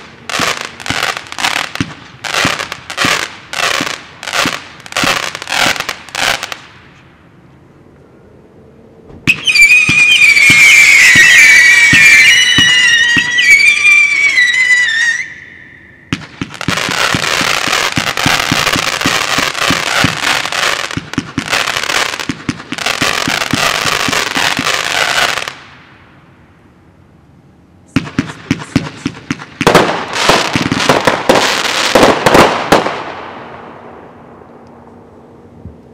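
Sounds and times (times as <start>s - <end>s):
firework crackling: 0.0s - 7.0s, 9.3s - 26.0s, 27.9s - 34.2s.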